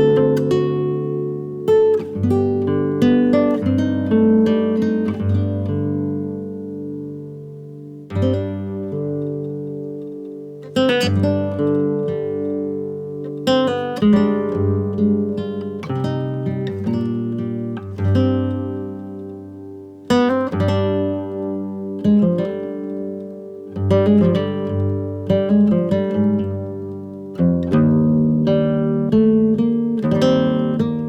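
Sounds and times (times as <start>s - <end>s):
acoustic guitar chords: 0.0s - 31.0s.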